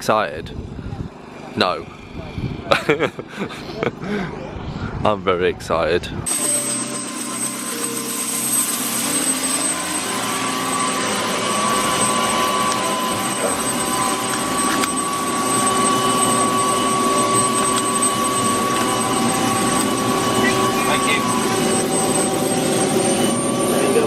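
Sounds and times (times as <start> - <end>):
helicopter rotor noise: 0.5 - 5.0, 6.2 - 24.0
helicopter engine whine: 0.6 - 4.8, 6.2 - 24.0.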